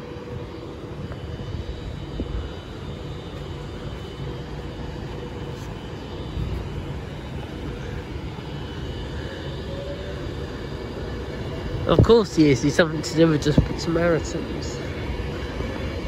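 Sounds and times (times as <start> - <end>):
electric train rumbling past: 0.0 - 16.0
faint train whine: 0.0 - 16.0.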